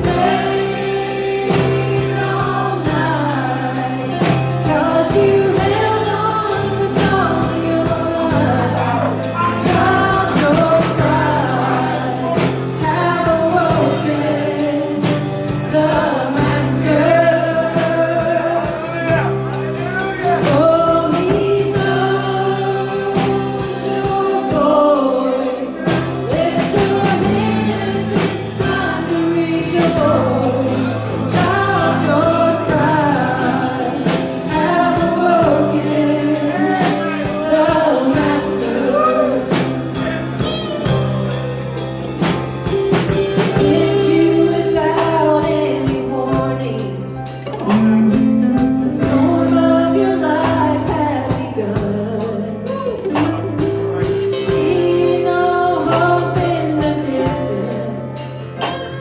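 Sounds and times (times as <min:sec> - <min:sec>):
drum kit steady beat: 0:00.0 - 0:59.0
singers: 0:00.0 - 0:59.0
sustained bass notes: 0:00.0 - 0:59.0.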